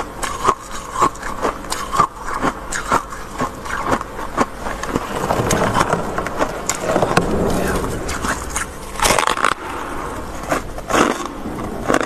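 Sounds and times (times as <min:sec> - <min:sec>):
frost crunching between teeth: 0:00.0 - 0:12.0.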